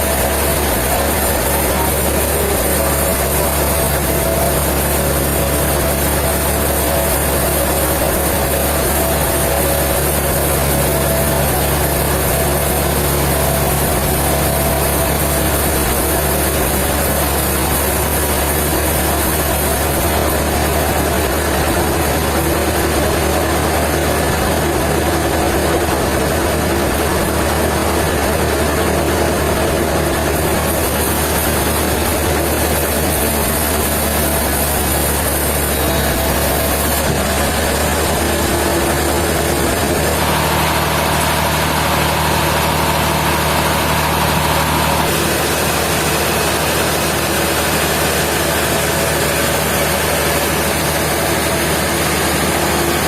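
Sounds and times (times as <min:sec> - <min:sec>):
sawmill machinery droning: 0:00.0 - 0:53.0.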